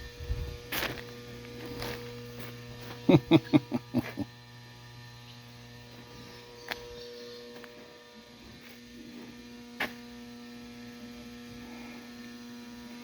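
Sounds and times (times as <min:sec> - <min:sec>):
mains electrical hum: 0:00.0 - 0:13.0.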